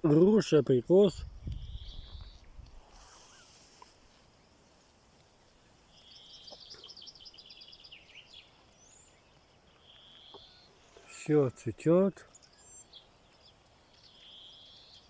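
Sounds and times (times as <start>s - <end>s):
faint bird song: 0.0s - 15.0s.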